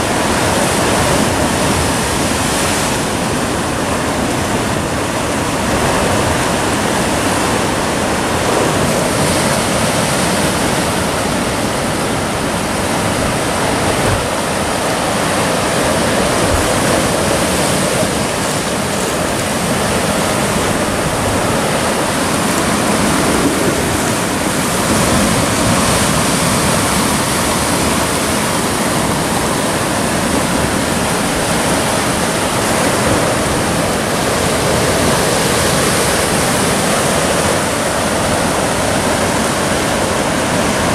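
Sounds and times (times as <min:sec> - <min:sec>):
surf breaking against rocks: 0:00.0 - 0:40.9.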